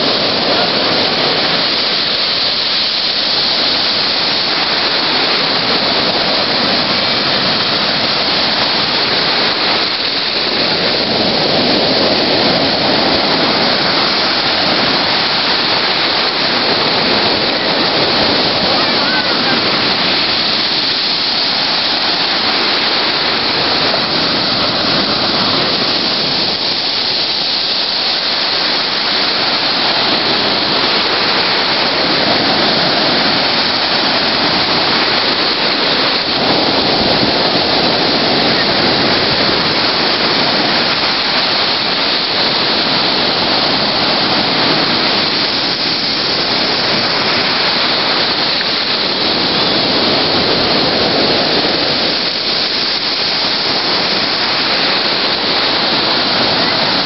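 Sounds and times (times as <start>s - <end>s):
sea surf breaking: 0.0s - 57.0s.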